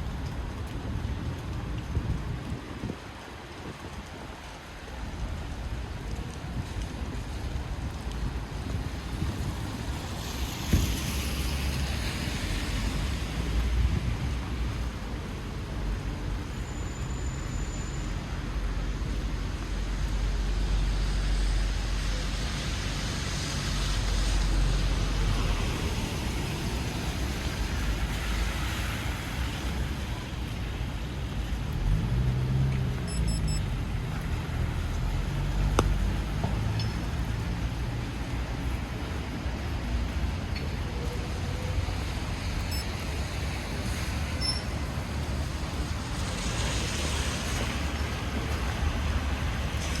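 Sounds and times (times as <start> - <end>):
cars passing on wet road: 0.0 - 50.0.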